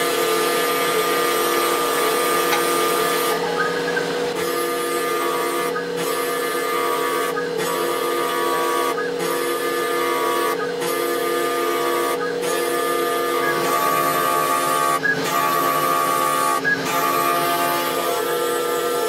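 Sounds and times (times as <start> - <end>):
mill motors whining: 0.0 - 19.0.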